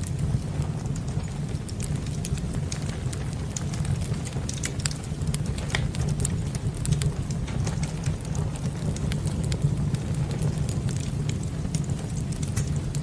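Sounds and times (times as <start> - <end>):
low fire rumble: 0.0 - 13.0
wood fire crackling: 0.0 - 13.0.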